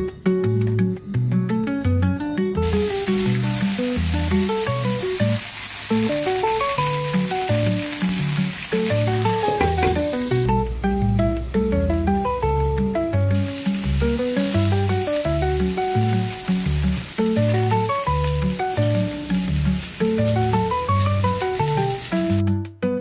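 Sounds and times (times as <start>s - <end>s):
background music with bass line: 0.0s - 23.0s
food sizzling in hot oil: 2.6s - 22.4s.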